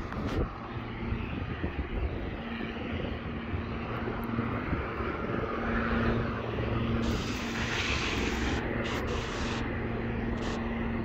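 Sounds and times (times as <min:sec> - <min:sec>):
engine droning: 0:00.0 - 0:11.0
outdoor noise: 0:00.0 - 0:11.0.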